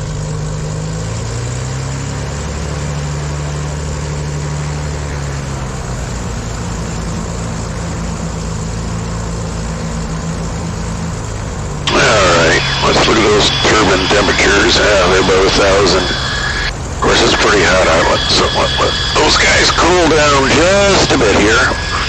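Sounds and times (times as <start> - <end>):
propeller aircraft engines idling: 0.0 - 22.0.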